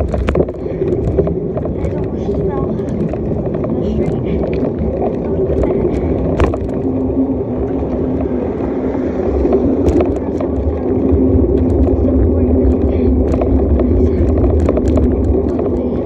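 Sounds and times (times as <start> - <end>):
bicycle tyre and rattle noise: 0.0 - 16.0
scattered clicks: 0.0 - 16.0
steady low hum: 0.0 - 16.0
wind buffeting microphone: 0.0 - 16.0.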